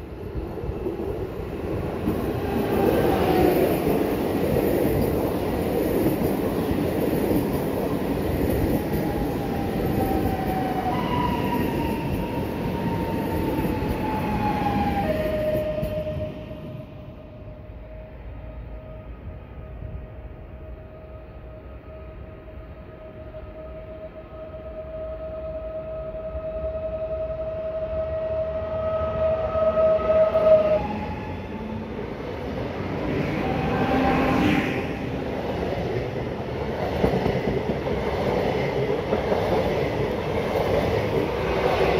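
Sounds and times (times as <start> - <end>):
train wheel and rail rumble: 0.0 - 41.9.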